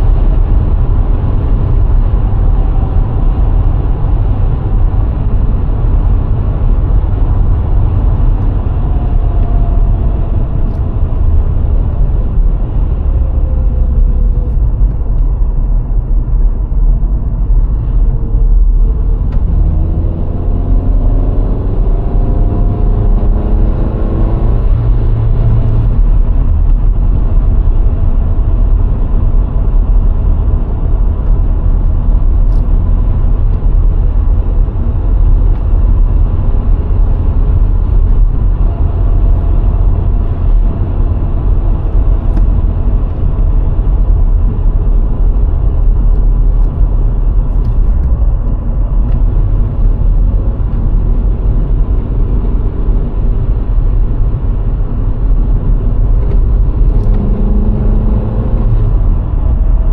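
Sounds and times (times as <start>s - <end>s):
car engine accelerating: 0.0s - 59.9s
road and tyre rumble: 0.0s - 59.9s.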